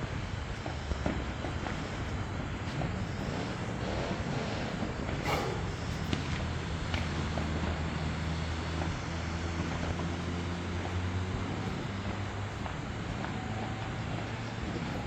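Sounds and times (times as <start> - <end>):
distant fireworks popping: 0.0 - 15.0
low engine hum: 0.0 - 15.0.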